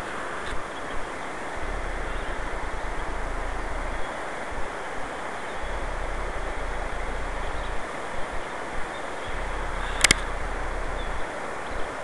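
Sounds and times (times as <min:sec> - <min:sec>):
river flowing: 0:00.0 - 0:12.0
wind rumbling on microphone: 0:00.0 - 0:12.0.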